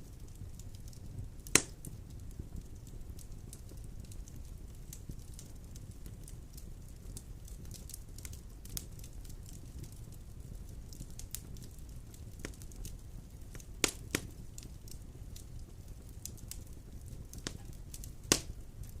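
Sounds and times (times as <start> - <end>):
fire crackles and pops: 0.0 - 19.0
fire rumbling: 0.0 - 19.0.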